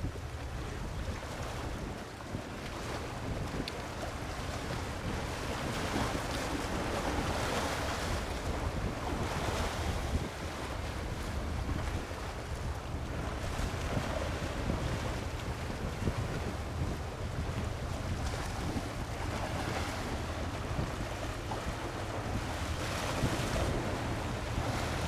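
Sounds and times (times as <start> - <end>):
wind buffeting microphone: 2.7 - 25.0.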